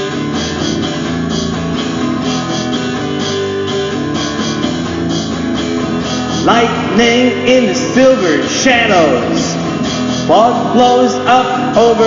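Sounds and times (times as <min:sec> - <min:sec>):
guitars strumming and picking: 0:00.0 - 0:12.0
steady repeating rhythm: 0:00.0 - 0:12.0.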